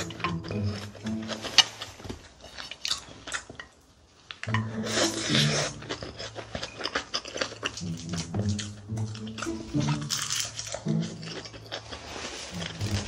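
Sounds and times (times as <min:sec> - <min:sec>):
close-miked wet chewing: 0:00.0 - 0:13.0.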